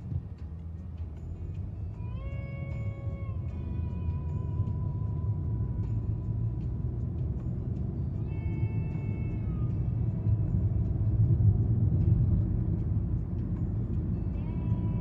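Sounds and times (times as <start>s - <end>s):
road rumble inside car: 0.0s - 15.0s.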